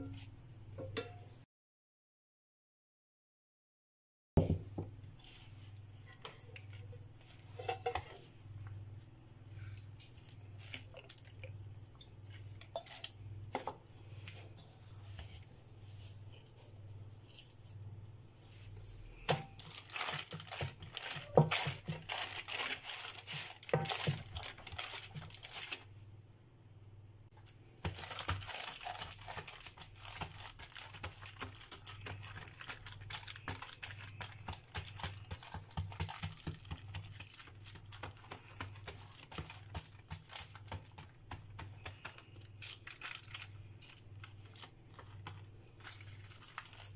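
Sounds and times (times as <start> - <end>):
baking paper crinkling: 5.1 - 17.8, 18.5 - 25.9, 27.4 - 46.9.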